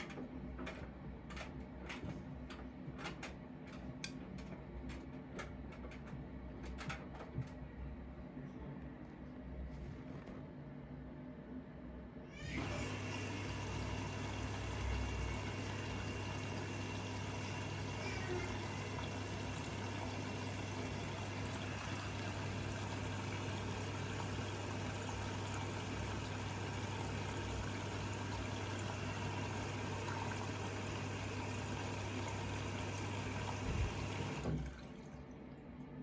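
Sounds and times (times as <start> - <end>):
washing machine filling with water: 0.0 - 7.8, 12.3 - 36.0.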